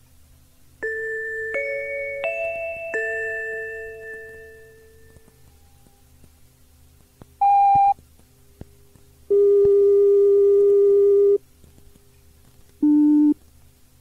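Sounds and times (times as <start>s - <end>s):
faint tape hum: 0.0s - 14.0s
lower steady tone: 0.3s - 12.2s, 12.8s - 13.4s.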